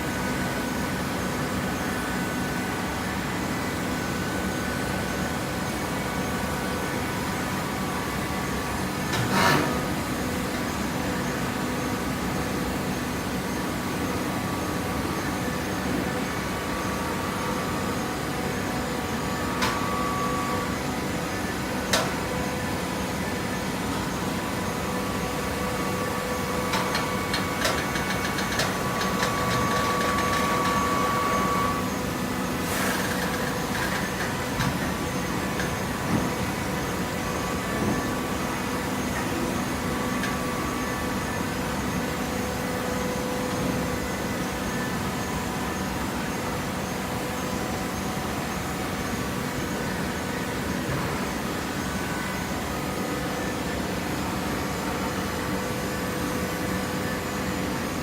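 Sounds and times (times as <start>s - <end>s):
held mechanical whine: 0.8s - 58.0s.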